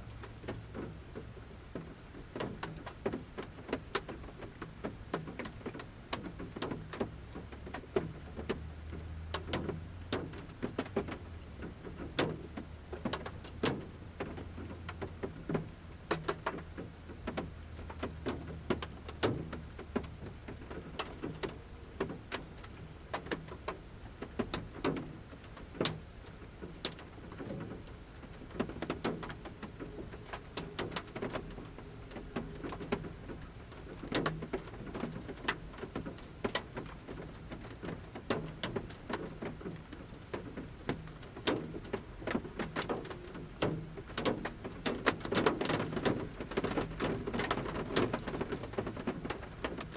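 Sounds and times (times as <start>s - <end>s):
light rain patter: 0.0s - 49.9s
drops tapping on van roof: 0.2s - 49.9s.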